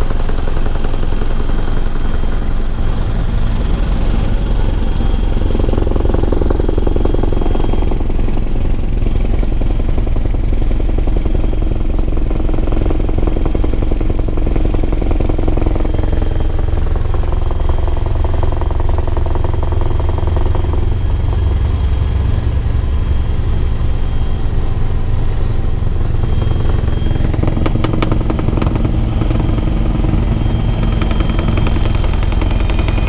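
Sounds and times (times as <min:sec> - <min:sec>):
helicopter rotor beat: 0:00.0 - 0:33.0
turbine engine noise: 0:00.0 - 0:33.0.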